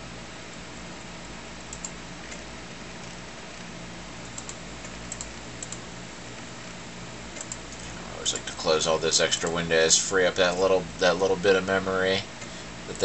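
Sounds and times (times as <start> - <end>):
computer hum: 0.0 - 13.0.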